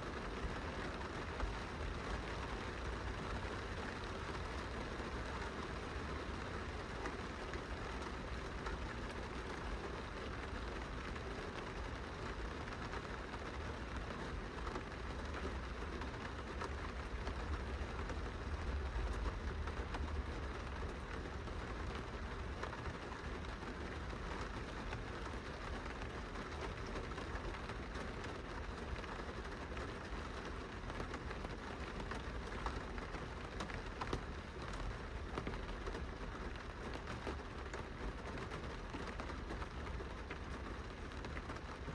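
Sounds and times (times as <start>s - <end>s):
rain on a glass window: 0.0s - 41.9s.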